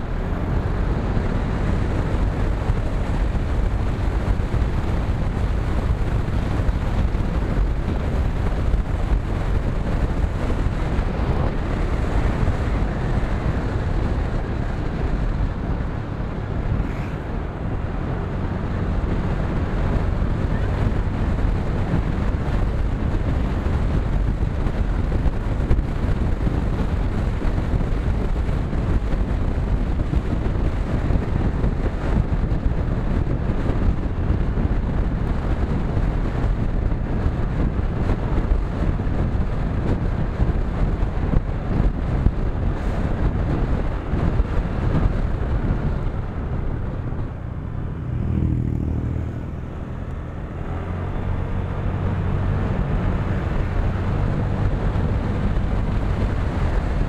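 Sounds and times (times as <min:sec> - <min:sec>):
motorcycle engine: 0:00.0 - 0:57.0
wind rushing over microphone: 0:00.0 - 0:57.0.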